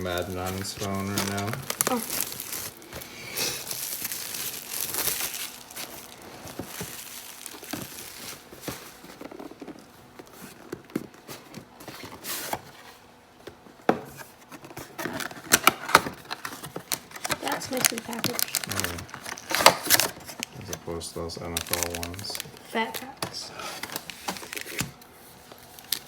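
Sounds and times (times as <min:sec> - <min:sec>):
packaging crinkling and tearing: 0:00.0 - 0:11.2, 0:14.6 - 0:26.0.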